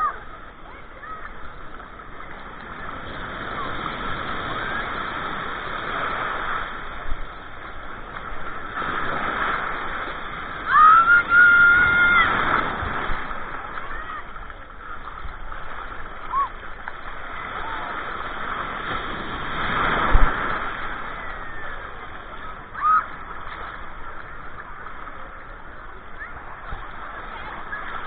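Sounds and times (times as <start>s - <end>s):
water sloshing and lapping: 0.0s - 28.0s.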